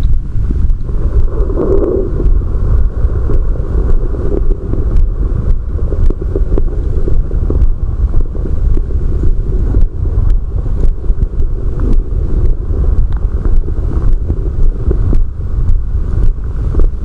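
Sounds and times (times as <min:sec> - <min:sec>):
stomach growling and gurgling: 0:00.0 - 0:17.0.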